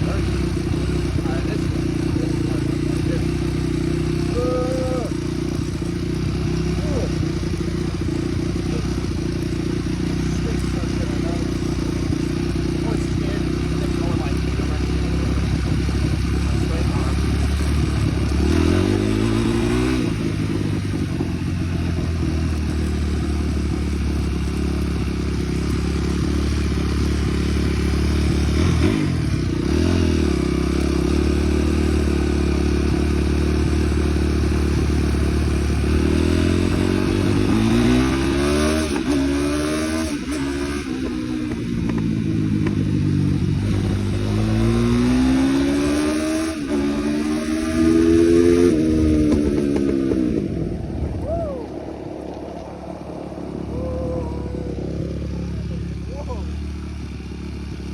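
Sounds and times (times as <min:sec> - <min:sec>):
off-road vehicle engine revving: 0:00.0 - 0:51.7, 0:53.5 - 0:57.9.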